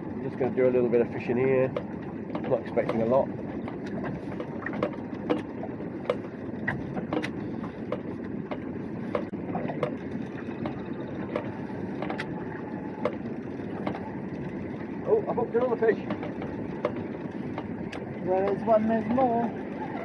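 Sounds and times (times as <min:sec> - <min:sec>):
water washing: 0:00.0 - 0:20.0
wind: 0:00.0 - 0:20.0
clicks and knocks from fishing gear: 0:01.7 - 0:14.9, 0:15.6 - 0:19.3.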